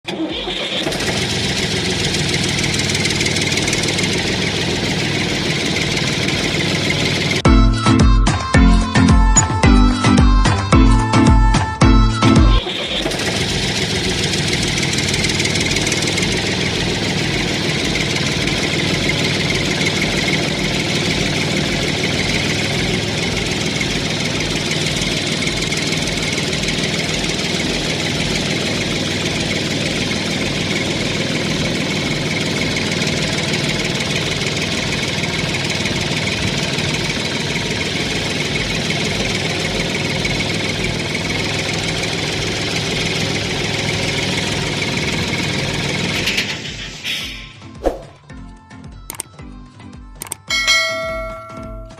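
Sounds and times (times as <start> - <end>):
engine chugging: 0.0 - 47.6, 50.2 - 51.9.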